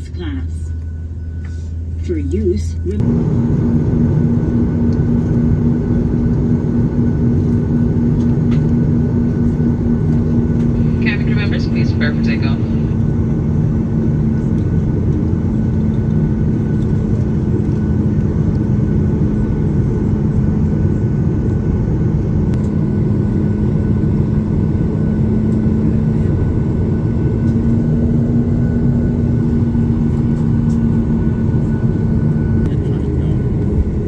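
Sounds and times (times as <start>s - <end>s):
airliner cabin engine rumble: 0.0s - 34.0s.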